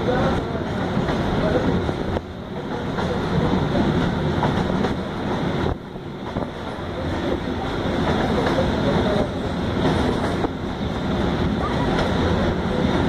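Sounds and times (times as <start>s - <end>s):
train carriage rumble and rattle: 0.0s - 13.0s.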